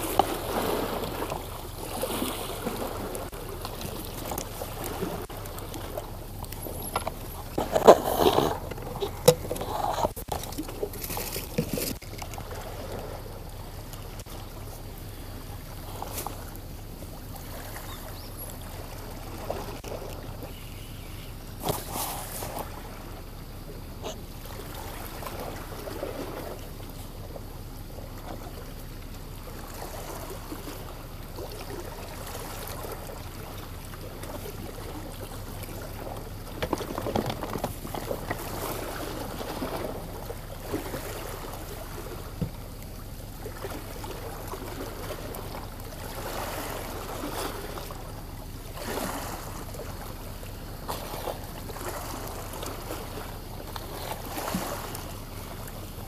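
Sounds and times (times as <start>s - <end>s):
seawater lapping against rocks: 0.0s - 56.0s.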